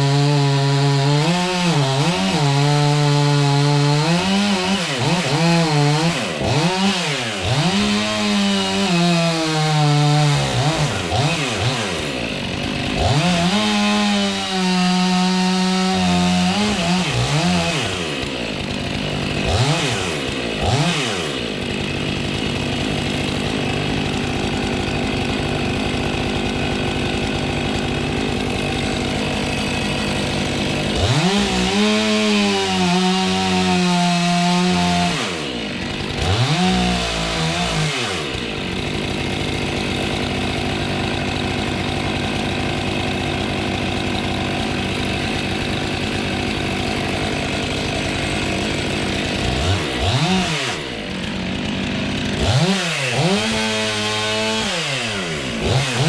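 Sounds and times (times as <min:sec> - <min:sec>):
chainsaw revving and cutting: 0:00.0 - 0:56.0.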